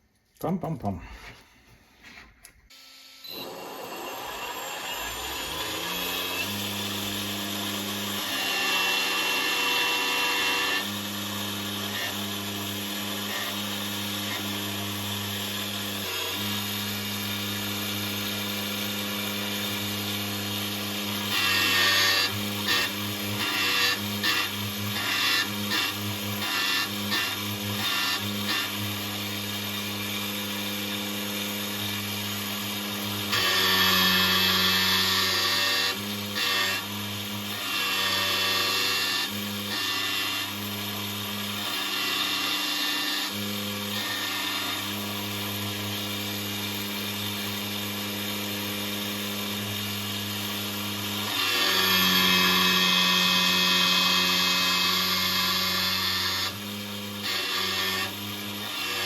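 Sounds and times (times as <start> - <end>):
electric motor humming: 2.7 - 59.0.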